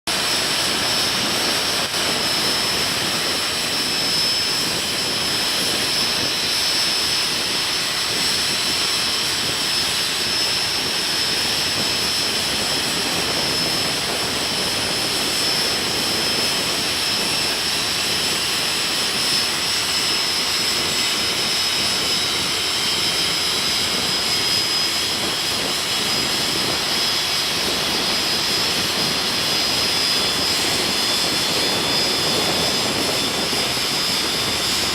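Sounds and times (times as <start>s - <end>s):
jet engine roaring: 0.0s - 34.9s.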